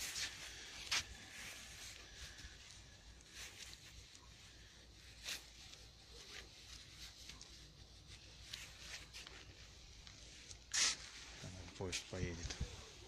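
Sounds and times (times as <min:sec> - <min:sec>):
faint scuffs or rustles: 0:00.0 - 0:13.0.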